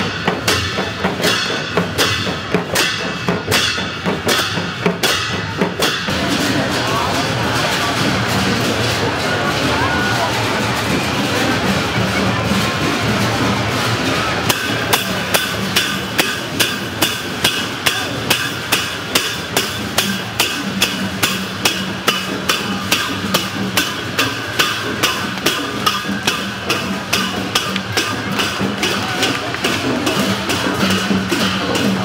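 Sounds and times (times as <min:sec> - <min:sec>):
small hand cymbals striking: 0:00.0 - 0:09.7, 0:10.5 - 0:32.0
drums: 0:00.0 - 0:32.0.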